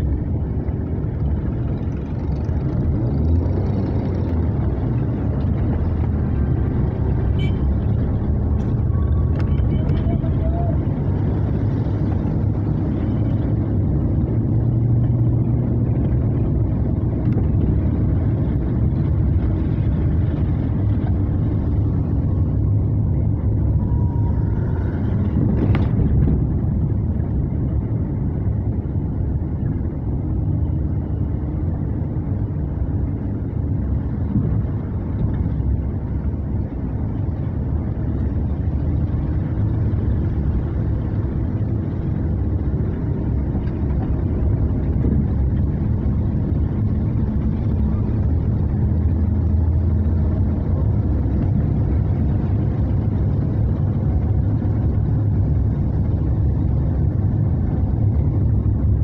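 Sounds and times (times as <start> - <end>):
car driving on wet road: 0.0 - 59.0.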